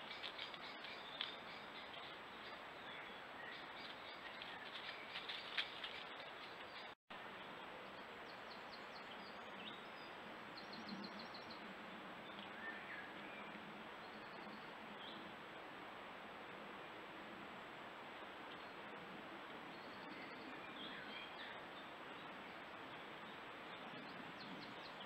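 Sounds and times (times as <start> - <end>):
faint birdsong chirps: 0.0 - 15.4, 18.4 - 19.0, 19.6 - 25.0.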